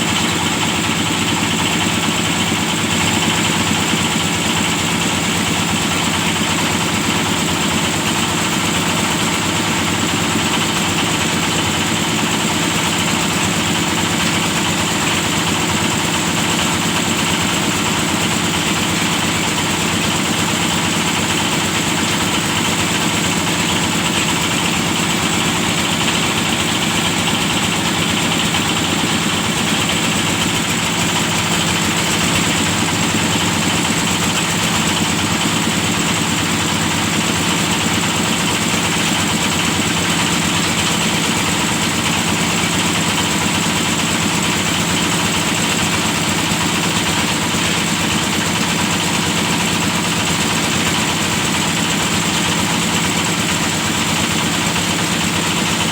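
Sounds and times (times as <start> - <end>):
drilling rig engine running: 0.0 - 55.9.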